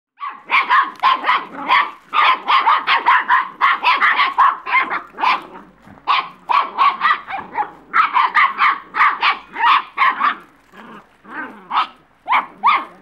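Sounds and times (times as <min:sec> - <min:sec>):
puppies yapping: 0:00.2 - 0:13.0.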